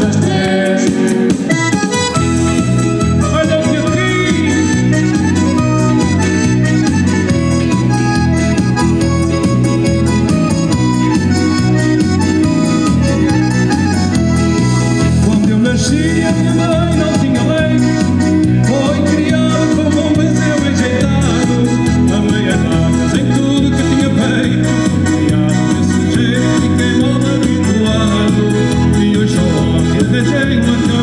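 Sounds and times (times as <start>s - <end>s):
band playing music: 0.0s - 31.0s
steady bass beat: 0.0s - 31.0s.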